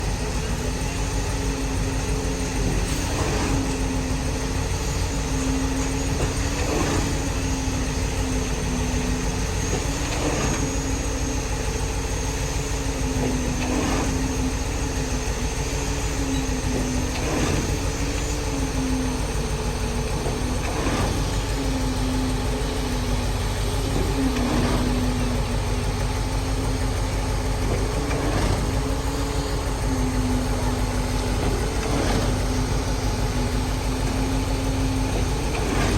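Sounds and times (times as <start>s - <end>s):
cement mixer truck running: 0.0s - 35.9s.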